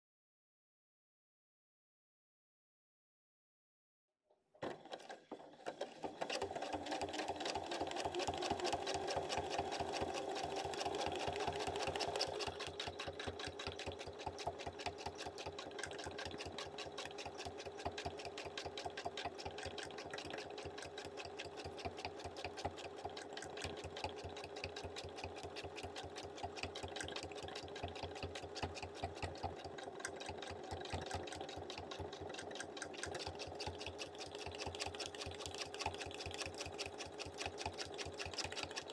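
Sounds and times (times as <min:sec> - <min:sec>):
sewing machine stitching: 0:04.6 - 0:38.9.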